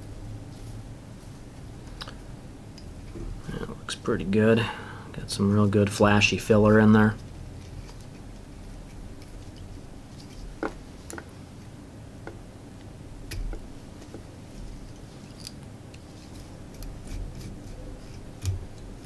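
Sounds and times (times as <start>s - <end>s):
low steady room hum: 0.0s - 19.0s.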